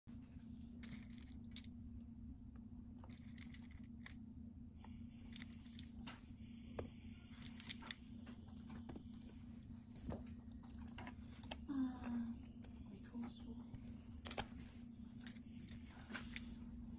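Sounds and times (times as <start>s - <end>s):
low steady hum: 0.1s - 16.9s.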